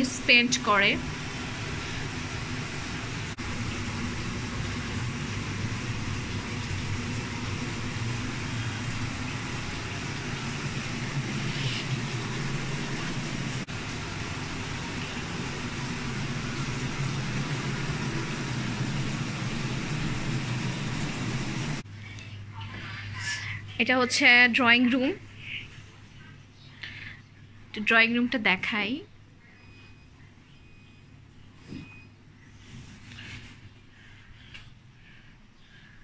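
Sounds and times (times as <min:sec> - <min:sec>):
range hood fan running: 0:00.0 - 0:36.0.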